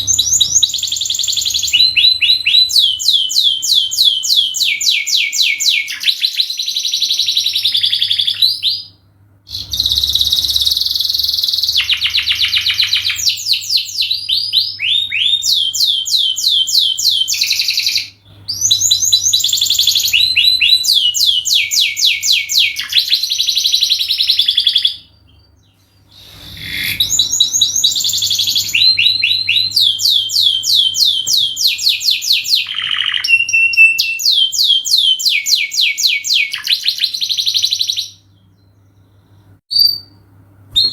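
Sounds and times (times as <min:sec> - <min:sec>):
canary singing trills: 0:00.0 - 0:40.2.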